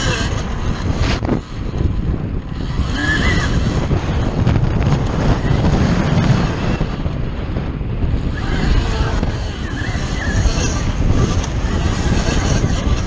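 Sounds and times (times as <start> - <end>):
low rumble of tyres over dirt: 0.0 - 13.0
wind buffeting microphone: 0.0 - 13.0.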